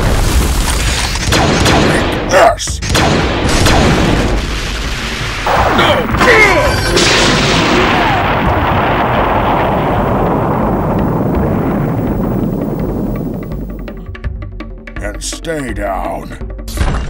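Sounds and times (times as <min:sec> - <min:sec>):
heavy boom and crash: 0:00.0 - 0:14.0.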